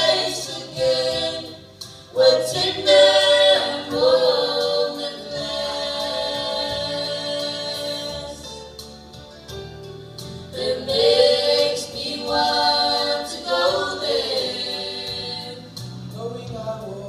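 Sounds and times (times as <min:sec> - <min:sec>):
group of people singing: 0:00.0 - 0:08.7, 0:10.5 - 0:17.0.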